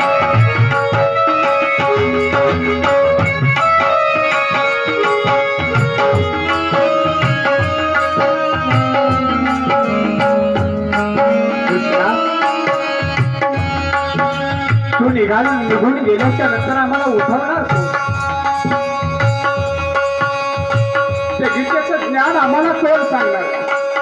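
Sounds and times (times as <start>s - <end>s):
long held melodic notes: 0.0s - 24.0s.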